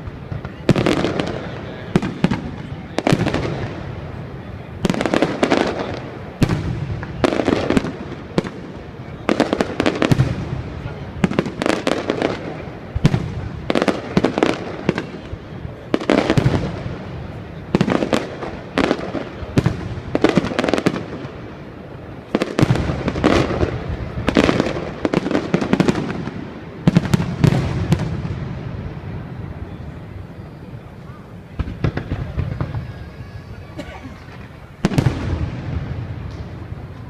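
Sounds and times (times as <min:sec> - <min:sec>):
fireworks bangs with crackle: 0:00.0 - 0:37.0.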